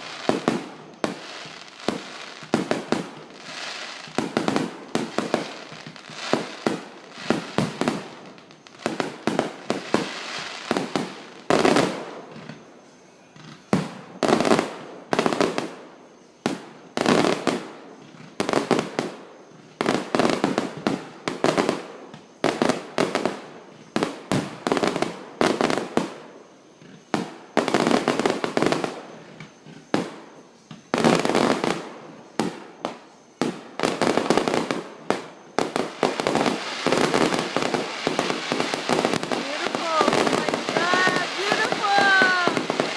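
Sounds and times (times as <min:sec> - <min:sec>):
fireworks bangs and crackling: 0:00.0 - 0:12.7, 0:13.3 - 0:42.9.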